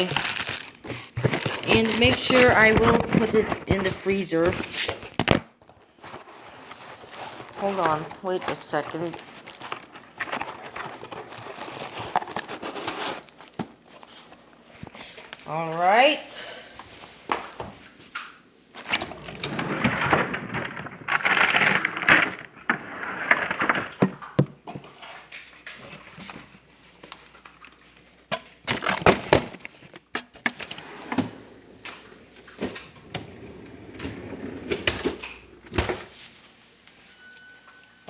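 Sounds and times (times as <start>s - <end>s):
plastic wrapping rustling: 0.0s - 15.5s, 18.0s - 38.0s.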